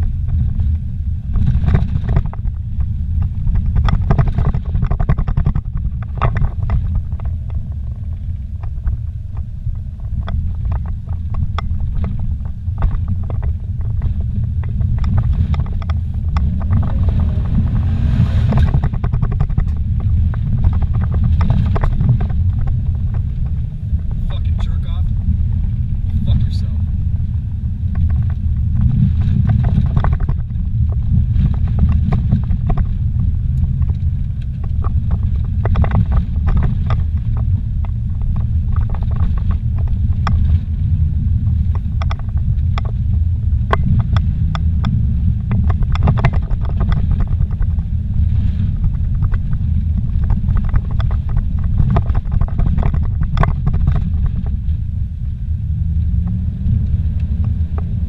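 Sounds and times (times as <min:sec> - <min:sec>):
car engine and tyres rumbling: 0:00.0 - 0:58.0
knocks and rattles on rough road: 0:00.0 - 0:58.0.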